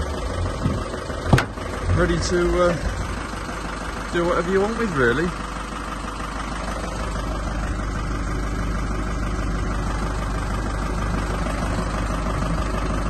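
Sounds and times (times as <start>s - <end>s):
van engine idling: 0.0s - 13.0s.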